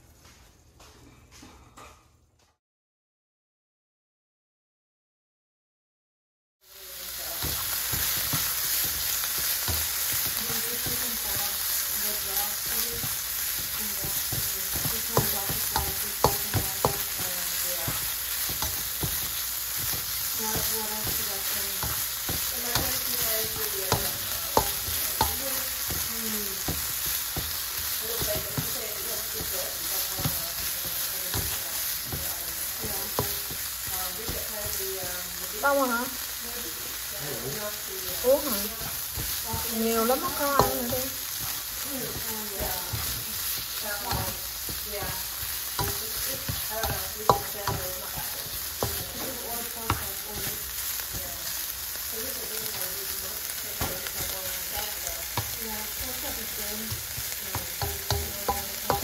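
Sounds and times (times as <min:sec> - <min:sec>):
food sizzling in a pan: 0:06.6 - 0:59.0.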